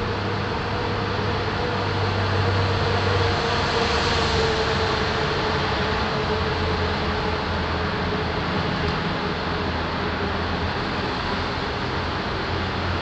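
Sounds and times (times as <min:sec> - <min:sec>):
car engine droning in tunnel: 0:00.0 - 0:13.0.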